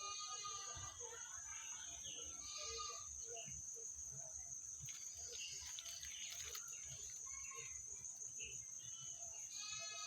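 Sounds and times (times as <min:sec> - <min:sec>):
faint chirps: 0:00.0 - 0:10.0
insects droning: 0:00.0 - 0:10.0.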